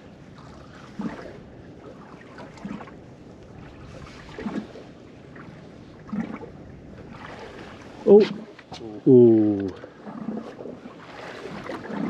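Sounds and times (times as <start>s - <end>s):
wind and sea hiss: 0.0s - 12.0s
water slapping against boat hull: 0.4s - 12.0s.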